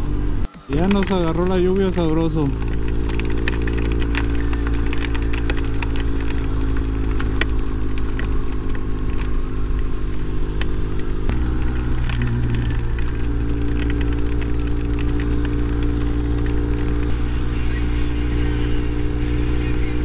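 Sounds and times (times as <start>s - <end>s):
motorcycle engine running: 0.0s - 20.0s
rain ticking: 0.0s - 20.0s.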